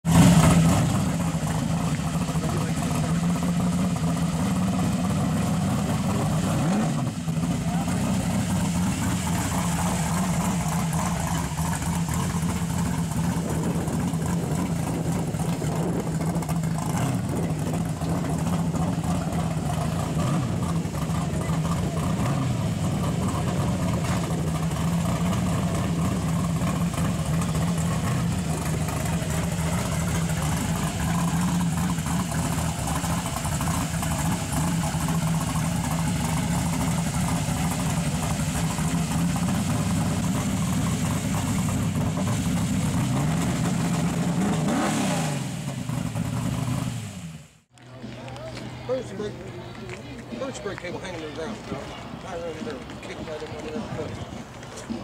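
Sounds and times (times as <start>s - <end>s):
choppy engine idling: 0.0s - 55.0s.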